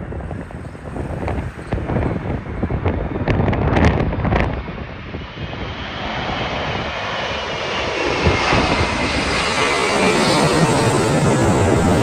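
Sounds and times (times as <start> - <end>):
airliner jet noise overhead: 0.0 - 12.0.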